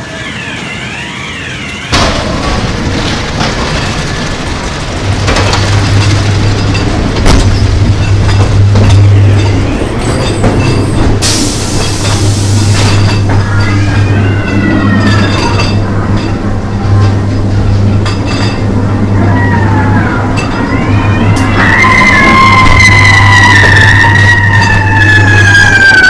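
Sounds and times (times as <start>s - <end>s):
ride car rumbling on track: 0.0s - 26.0s.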